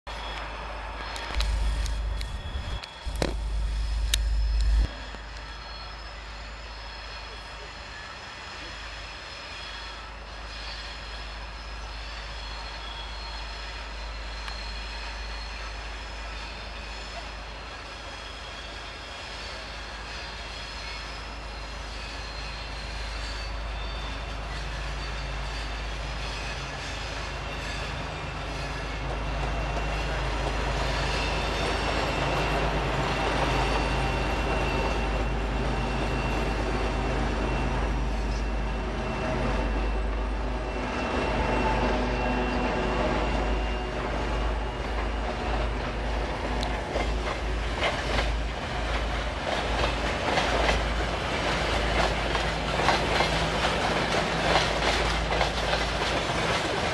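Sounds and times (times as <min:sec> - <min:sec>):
diesel locomotive engine running: 0:00.1 - 0:56.9
thin high squeal: 0:00.2 - 0:48.4.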